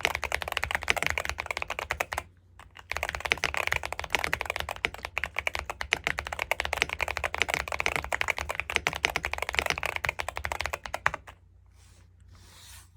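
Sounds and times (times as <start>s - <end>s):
fast typing on mechanical keyboard: 0.0s - 11.4s.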